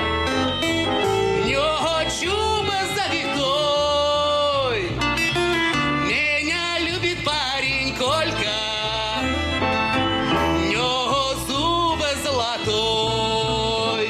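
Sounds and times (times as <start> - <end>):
acoustic guitar: 0.0 - 14.0
plucked double bass: 0.0 - 14.0
man singing: 1.4 - 5.0, 5.8 - 14.0.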